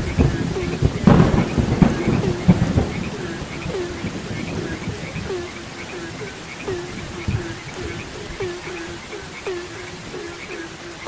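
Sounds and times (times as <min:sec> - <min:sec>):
frogs croaking: 0:00.0 - 0:11.0
steady rain: 0:00.0 - 0:11.0
thunder rumbling: 0:00.0 - 0:11.0.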